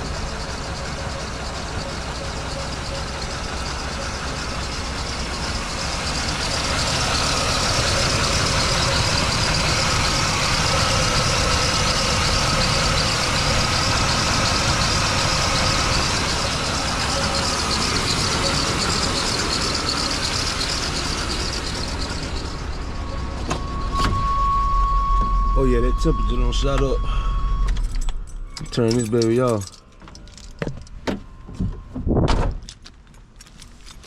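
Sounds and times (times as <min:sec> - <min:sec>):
pickup engine idling: 0:00.0 - 0:32.1.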